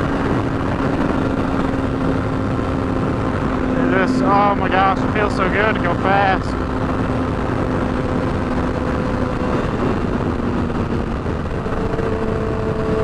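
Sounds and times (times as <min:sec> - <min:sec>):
motorcycle engine at speed: 0:00.0 - 0:13.0
wind rush on microphone: 0:00.0 - 0:13.0.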